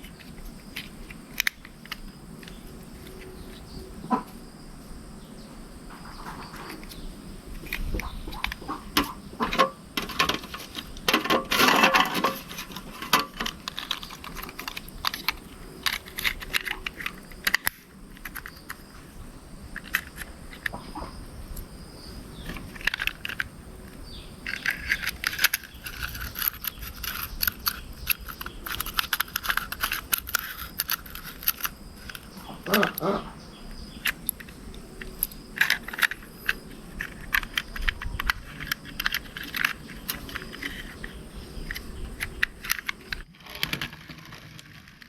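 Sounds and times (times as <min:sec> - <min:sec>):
small parts clicking and rattling: 0:00.0 - 0:03.7, 0:06.2 - 0:19.1, 0:19.7 - 0:20.8, 0:22.4 - 0:33.1, 0:33.8 - 0:45.0.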